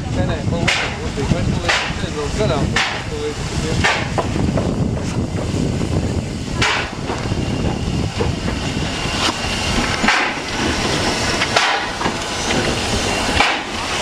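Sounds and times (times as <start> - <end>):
low rumble: 0.0 - 14.0
steam locomotive exhaust chuffs: 0.0 - 14.0.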